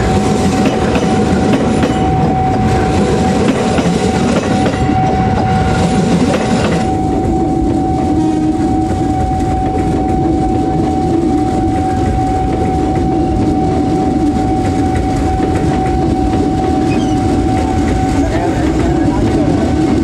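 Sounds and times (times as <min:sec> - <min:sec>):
clickety-clack over rail joints: 0:00.0 - 0:20.0
wheels rumbling on rail: 0:00.0 - 0:20.0.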